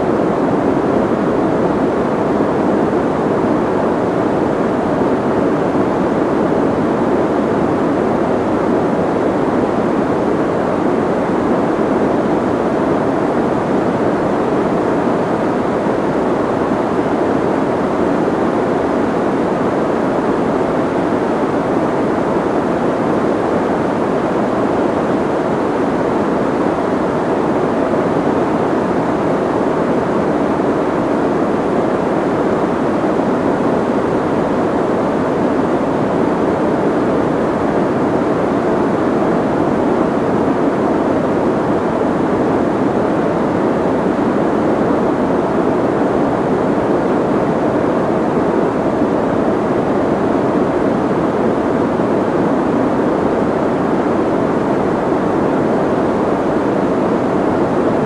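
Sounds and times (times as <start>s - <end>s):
soft white noise: 0.0s - 58.0s.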